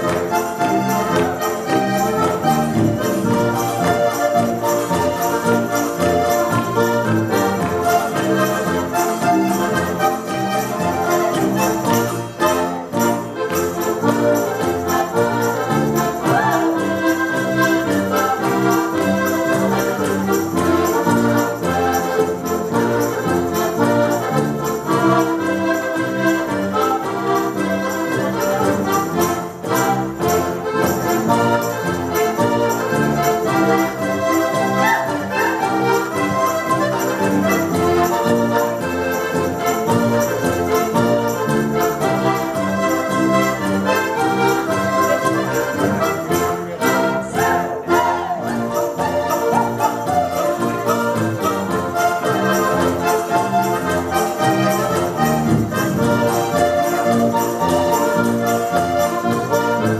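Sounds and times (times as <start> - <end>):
accordion ensemble playing: 0.0 - 59.9.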